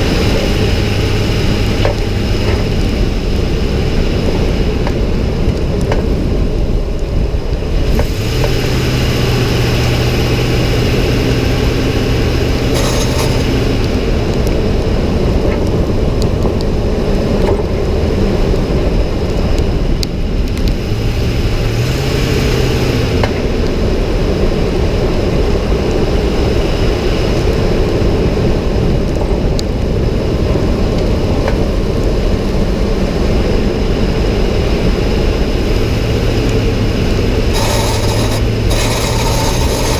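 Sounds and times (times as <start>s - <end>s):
pickup truck driving: 0.0s - 19.1s, 20.7s - 29.0s, 30.2s - 39.9s.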